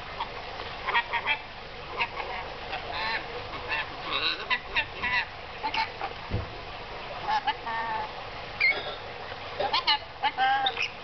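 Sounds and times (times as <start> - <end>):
parrots squawking and chirping: 0.2 - 6.1, 7.3 - 11.0.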